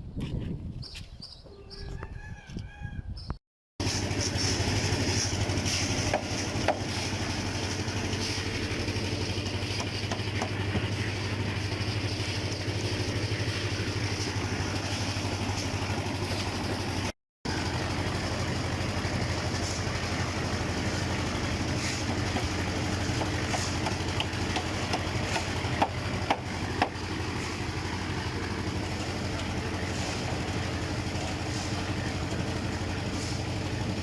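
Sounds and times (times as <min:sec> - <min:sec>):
engine idling: 0:03.8 - 0:34.0.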